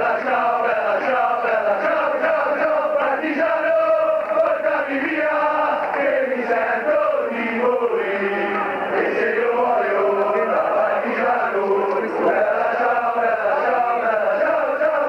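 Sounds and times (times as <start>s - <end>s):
crowd chanting in unison: 0.0s - 15.0s.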